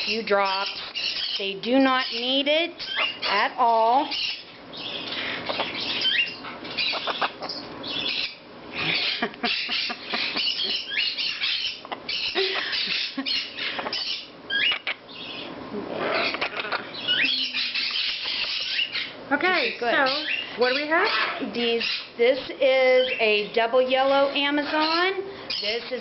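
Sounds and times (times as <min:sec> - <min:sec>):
parrots squawking: 0:00.0 - 0:26.0.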